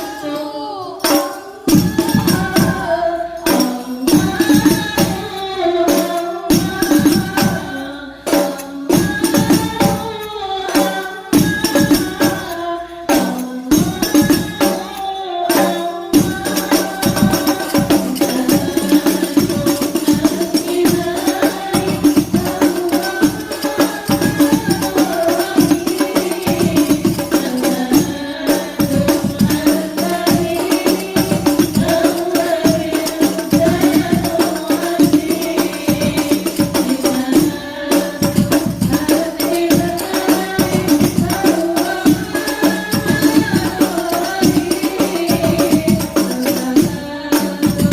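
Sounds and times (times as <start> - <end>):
frame drums driving rhythm: 0.0 - 47.9
group singing devotional songs: 0.0 - 47.9.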